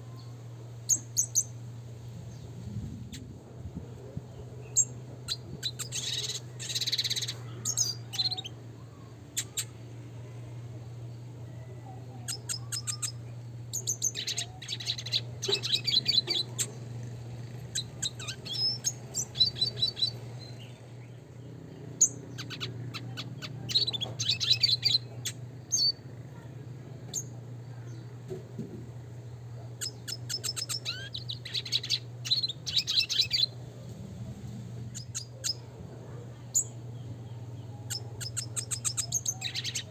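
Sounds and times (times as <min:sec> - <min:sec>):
steady low hum: 0:00.0 - 0:39.9
bird twittering and trilling: 0:00.9 - 0:01.6, 0:04.3 - 0:09.8, 0:11.1 - 0:28.4, 0:29.5 - 0:33.6, 0:34.8 - 0:39.9.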